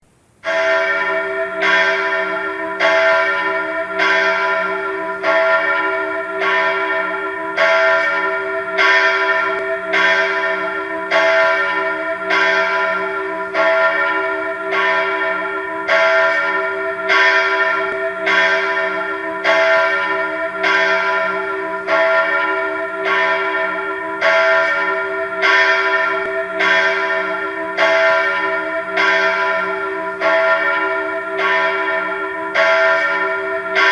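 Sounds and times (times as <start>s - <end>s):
church bells pealing: 0.4s - 33.9s.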